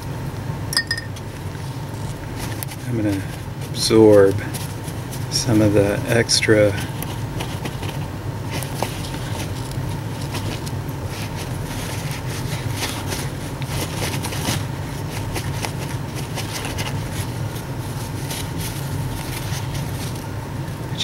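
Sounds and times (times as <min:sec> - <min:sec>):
steady low hum: 0:00.0 - 0:21.0
paper towel rustling and crinkling: 0:01.2 - 0:21.0.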